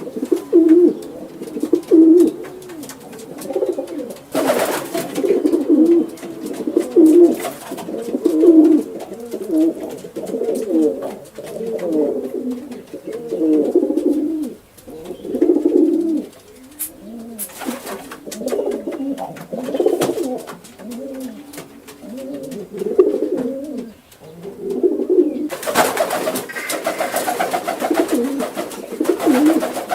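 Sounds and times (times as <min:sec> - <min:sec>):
rustling noise: 0:00.0 - 0:24.9
pigeons cooing: 0:00.0 - 0:29.9.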